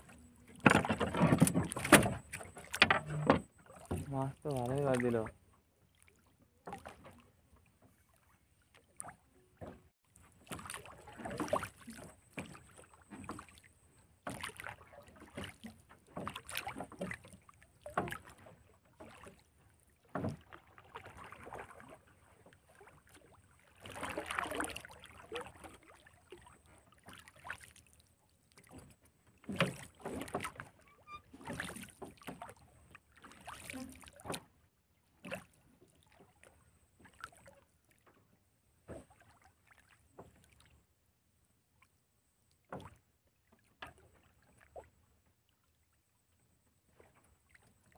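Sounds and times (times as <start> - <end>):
water lapping against boat hull: 0.0 - 47.9.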